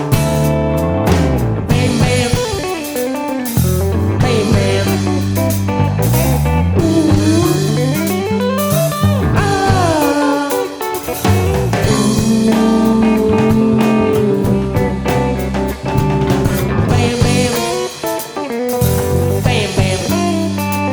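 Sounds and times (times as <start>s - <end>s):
bass: 0.0s - 20.9s
drums: 0.0s - 20.9s
lead guitar line: 0.0s - 20.9s.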